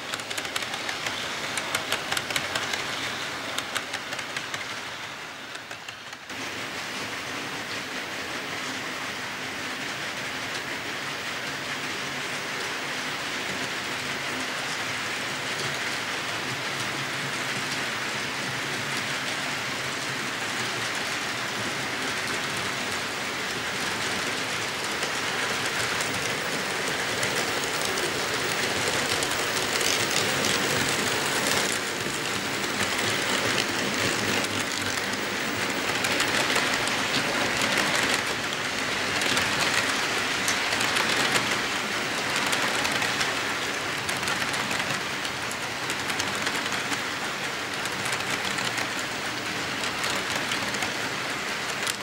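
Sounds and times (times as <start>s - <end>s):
model train wheels rushing: 0.0s - 52.0s.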